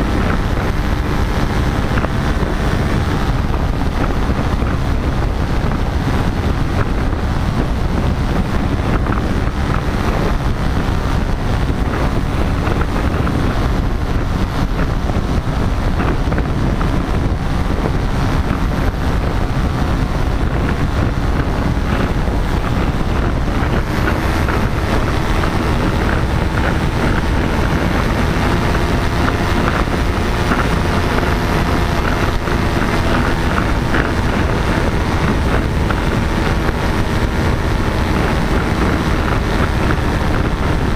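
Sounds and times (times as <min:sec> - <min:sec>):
paramotor engine droning: 0:00.0 - 0:40.9
wind buffeting microphone: 0:00.0 - 0:40.9.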